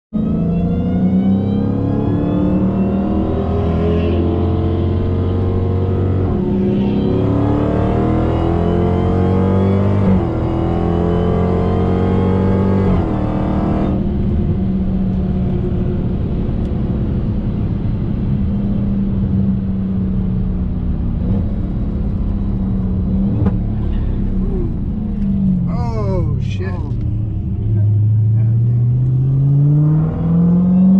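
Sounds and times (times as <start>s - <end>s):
car engine at full throttle: 0.1s - 30.9s.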